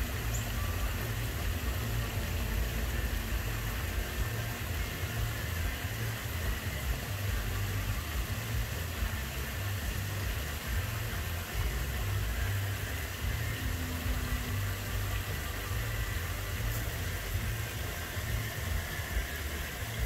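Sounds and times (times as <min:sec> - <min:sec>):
small waterfall hiss: 0:00.0 - 0:20.0.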